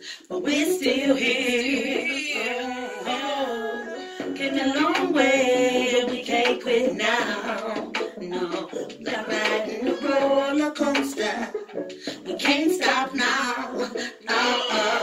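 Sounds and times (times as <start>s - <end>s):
woman singing: 0.0s - 11.6s, 12.2s - 15.0s.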